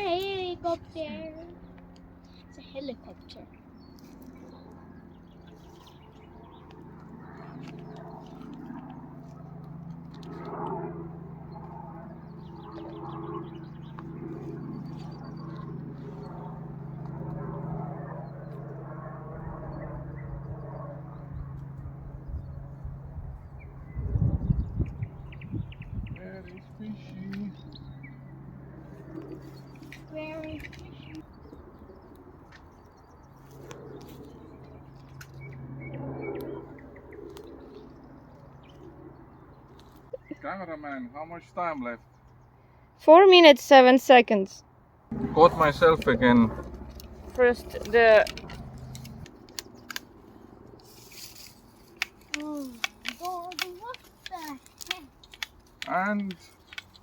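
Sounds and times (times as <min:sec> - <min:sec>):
small birds chirping: 0:00.0 - 0:09.4, 0:12.1 - 0:17.0, 0:22.1 - 0:42.9, 0:45.4 - 0:57.0
helicopter drone: 0:00.0 - 0:57.0.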